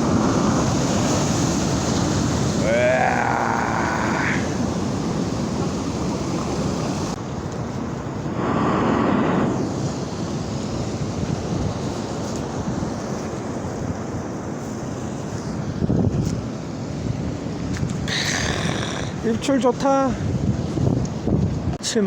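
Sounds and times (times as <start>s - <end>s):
wind buffeting microphone: 0.0s - 21.8s
surf breaking ashore: 0.0s - 22.0s.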